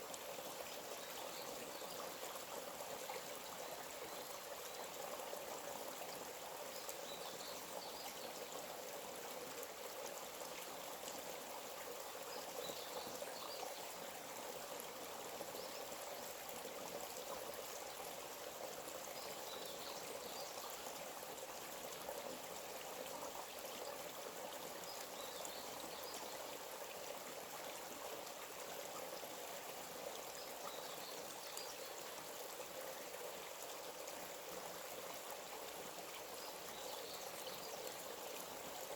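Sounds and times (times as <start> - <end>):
forest stream running: 0.0 - 38.9.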